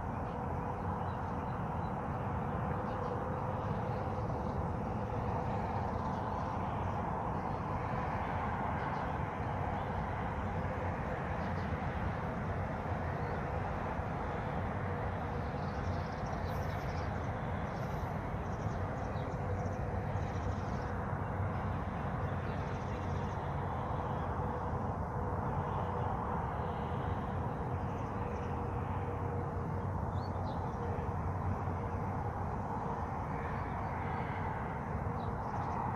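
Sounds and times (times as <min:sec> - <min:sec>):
faint hum: 0:00.0 - 0:35.9
low rumbling noise: 0:00.0 - 0:35.9.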